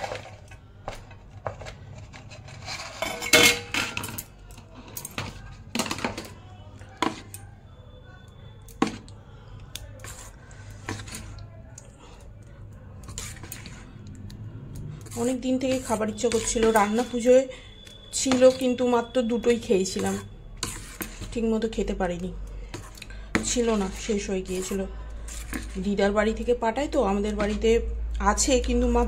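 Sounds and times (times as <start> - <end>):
spoon stirring batter in steel bowl: 0.0 - 29.0.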